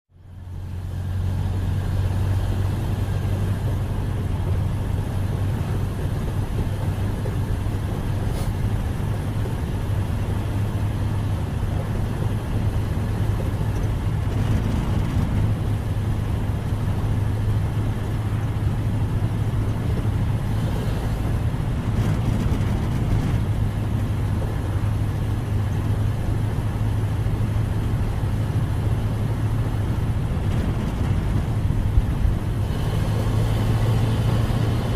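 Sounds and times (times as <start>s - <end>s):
car engine droning: 0.1s - 34.9s.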